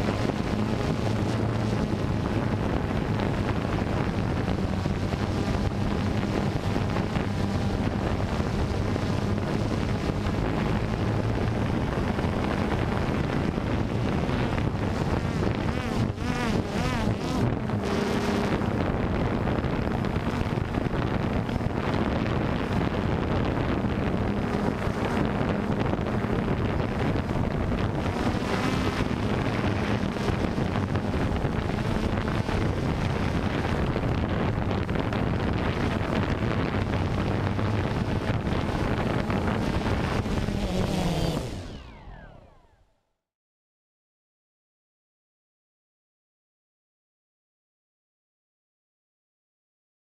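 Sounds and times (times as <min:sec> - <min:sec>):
wind on microphone: 0:00.0 - 0:42.7
drone motors and propellers: 0:00.0 - 0:42.9.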